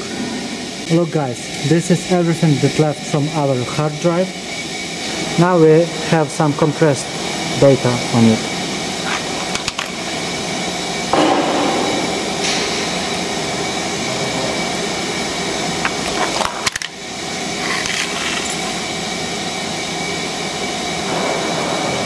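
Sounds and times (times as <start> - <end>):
steady machine noise: 0.0 - 22.0.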